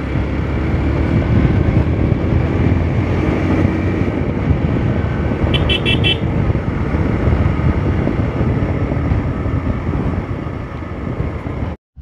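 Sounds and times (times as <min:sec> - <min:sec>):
motorcycle engine running: 0:00.0 - 0:11.8
wind rushing over microphone: 0:00.0 - 0:12.0.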